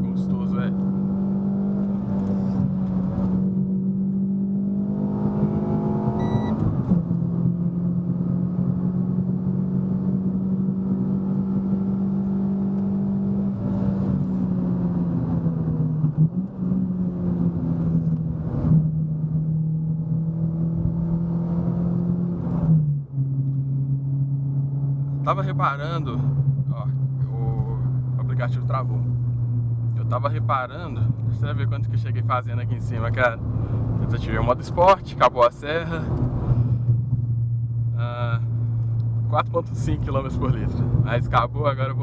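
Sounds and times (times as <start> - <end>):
car engine revving under load: 0.0 - 41.4.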